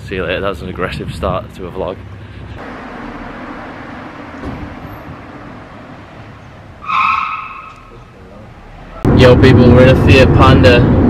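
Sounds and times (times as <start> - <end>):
distant traffic hum: 1.6 - 11.0.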